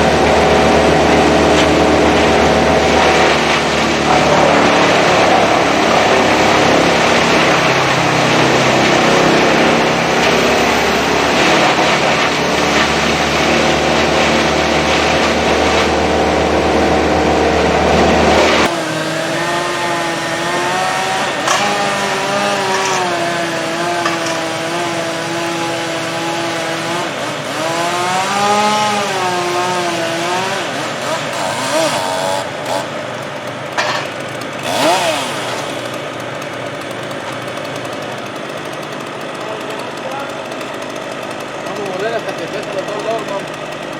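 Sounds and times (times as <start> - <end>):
chainsaw cutting wood: 0.0 - 43.9
loud engine running: 0.0 - 43.9.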